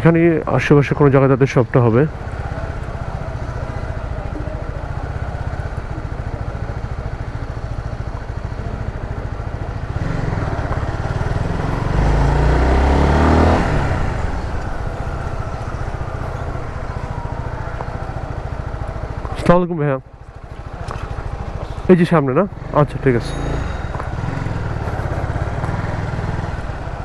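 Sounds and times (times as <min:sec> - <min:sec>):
motorcycle engine idling: 0:00.0 - 0:27.0
vehicle passing: 0:00.0 - 0:27.0.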